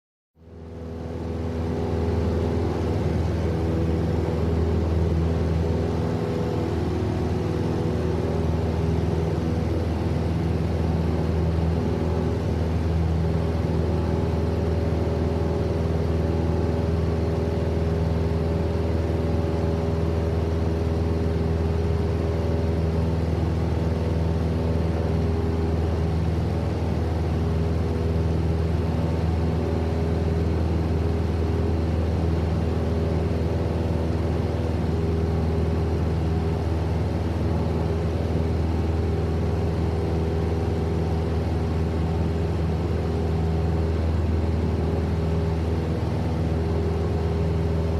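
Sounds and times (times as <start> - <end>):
propeller plane engine drone: 0.4 - 47.9.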